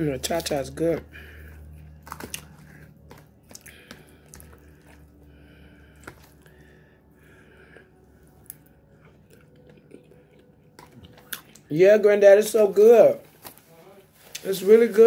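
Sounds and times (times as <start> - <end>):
faint chewing: 0.1 - 11.7, 14.2 - 14.7.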